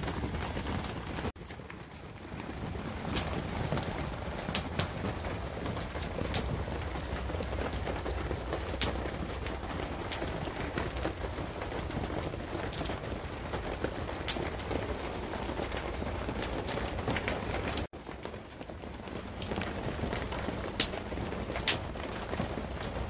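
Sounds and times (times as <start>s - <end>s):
rain on canvas: 0.0s - 23.0s.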